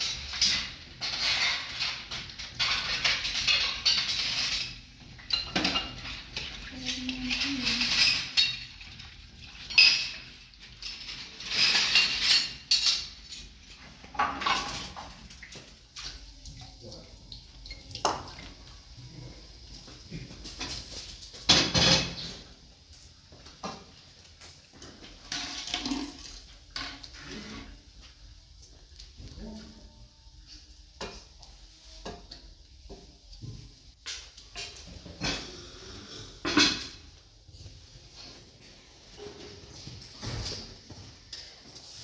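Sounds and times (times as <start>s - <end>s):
kitchenware clinking and scraping: 0.0s - 22.7s, 23.3s - 42.0s.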